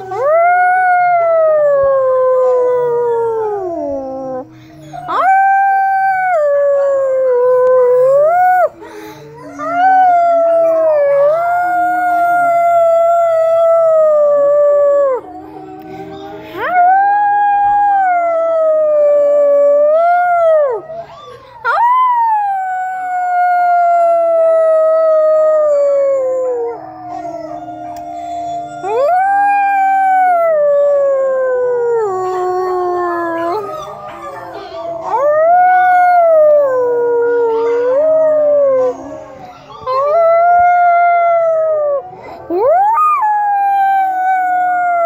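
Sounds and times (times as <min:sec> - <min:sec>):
dog howling: 0:00.0 - 0:45.0.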